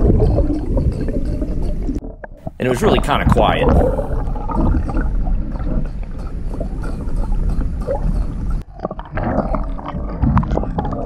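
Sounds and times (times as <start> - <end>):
water gurgling underwater: 0.0 - 11.0.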